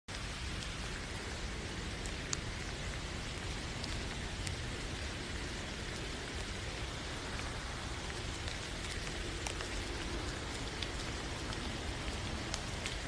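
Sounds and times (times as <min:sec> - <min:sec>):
raindrops ticking: 0:00.1 - 0:13.0
steady rain hiss: 0:00.1 - 0:13.0.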